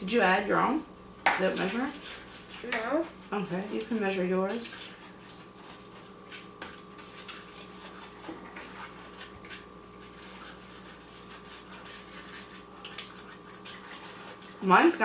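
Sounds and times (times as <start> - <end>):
low electrical hum: 0.0 - 15.0
slime stirring: 1.3 - 15.0.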